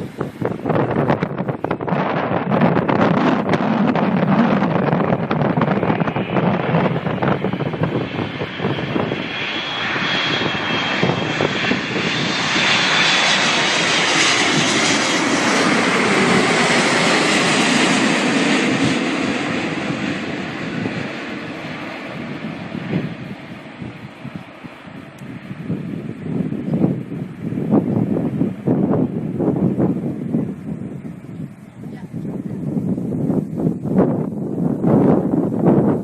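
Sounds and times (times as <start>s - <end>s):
jet engines with fan whine: 0.0s - 36.0s
wind buffeting microphone: 0.0s - 36.0s.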